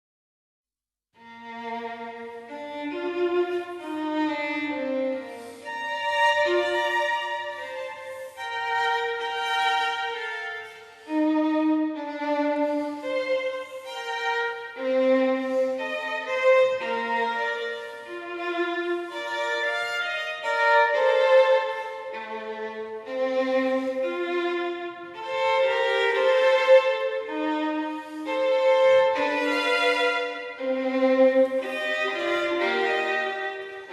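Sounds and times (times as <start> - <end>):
slow violin melody: 1.2 - 33.9.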